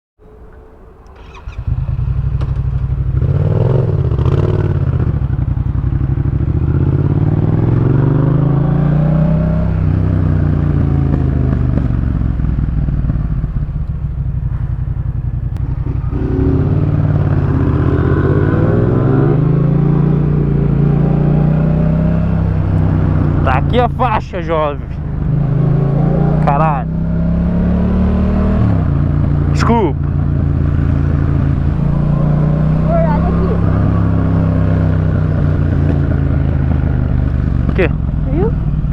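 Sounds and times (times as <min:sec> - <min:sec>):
motorcycle engine revving: 0:01.0 - 0:38.9.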